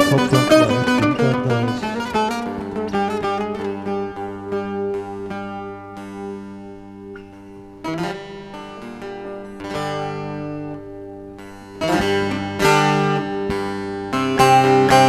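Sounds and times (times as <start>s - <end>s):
long-necked lute plucked: 0.0s - 15.0s.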